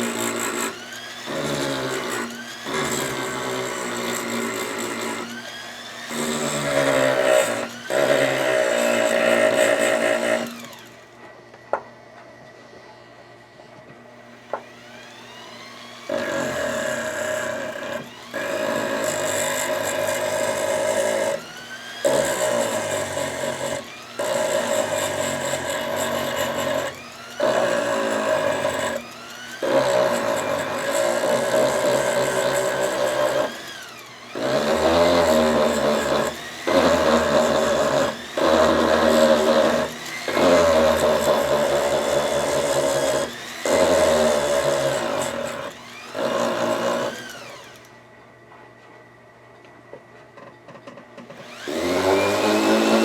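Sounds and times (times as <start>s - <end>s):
rotary tool grinding metal: 0.0s - 11.1s, 15.2s - 47.9s, 51.3s - 53.0s.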